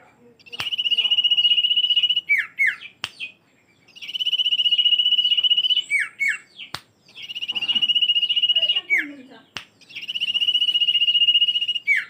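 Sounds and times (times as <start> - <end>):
bird trilling song: 0.0 - 12.0.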